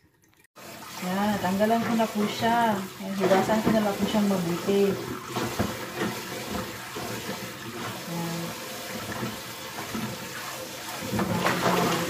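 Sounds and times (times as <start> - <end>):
faucet running into metal pot: 0.3 - 12.0
water splashing on hands: 0.9 - 12.0.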